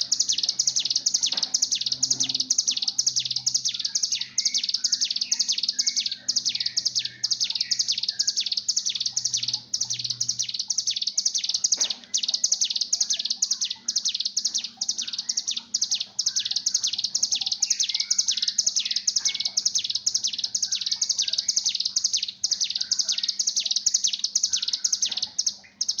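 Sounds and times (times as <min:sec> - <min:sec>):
bird buzzy trilling chatter: 0:00.0 - 0:26.0.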